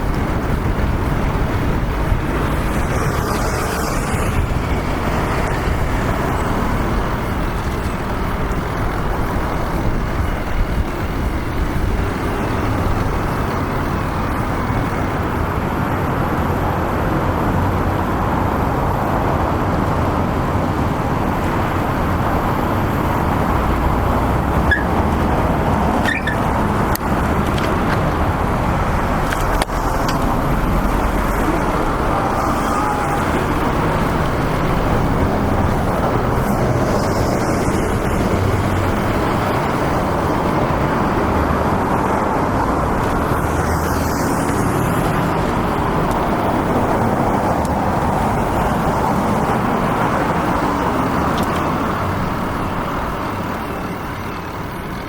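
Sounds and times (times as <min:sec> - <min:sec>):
city road traffic: 0:00.0 - 0:55.0
wind rumble on microphone: 0:00.0 - 0:55.0.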